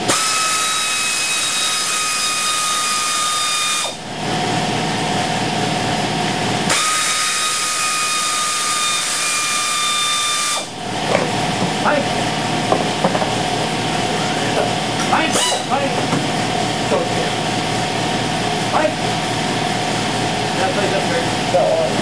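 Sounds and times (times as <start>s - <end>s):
compressor humming: 0.0s - 22.0s.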